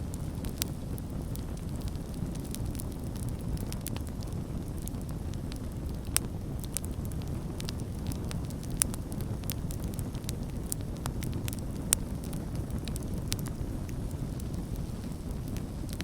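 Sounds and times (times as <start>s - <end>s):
burning wood crackling and popping: 0.0s - 16.0s
campfire flames rumbling: 0.0s - 16.0s.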